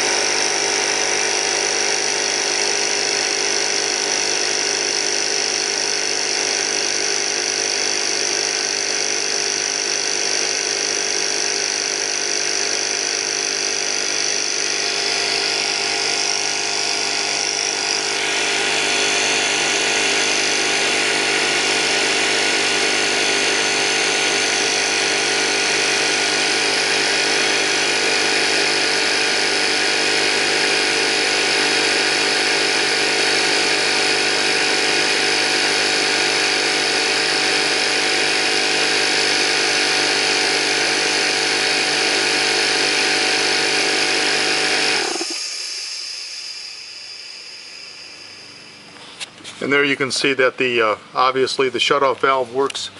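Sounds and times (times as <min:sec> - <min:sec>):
air compressor running: 0:00.0 - 0:52.9.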